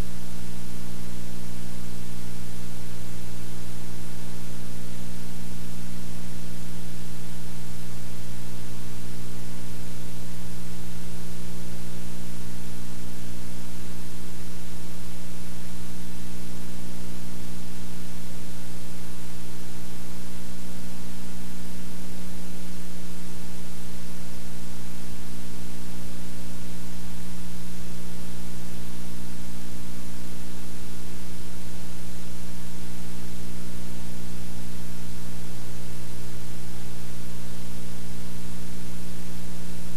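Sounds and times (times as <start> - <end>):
low electrical hum: 0.0 - 39.9
tape hiss: 0.0 - 39.9.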